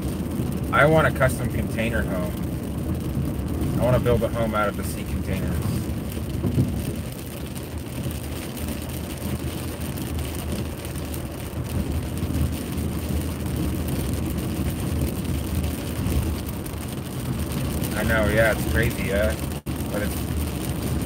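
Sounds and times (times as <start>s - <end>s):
rain on a car: 0.0s - 21.0s
road and tyre noise: 0.0s - 21.0s.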